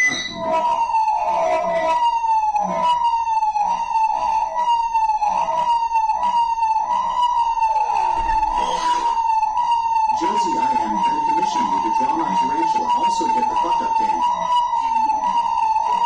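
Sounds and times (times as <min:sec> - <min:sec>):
siren tone over speakers: 0:00.0 - 0:16.0.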